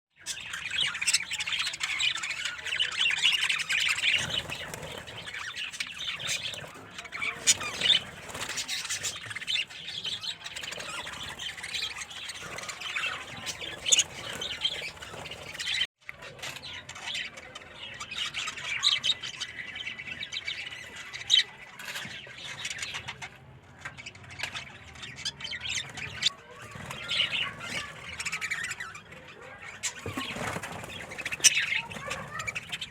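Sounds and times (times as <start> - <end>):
budgerigars chattering and squawking: 0.2 - 32.9.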